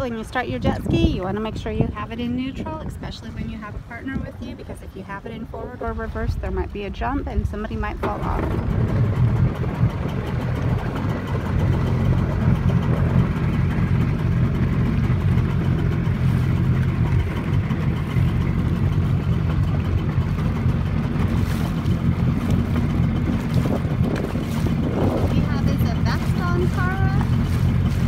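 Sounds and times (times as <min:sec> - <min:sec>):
jet ski engine droning: 0:00.0 - 0:28.0.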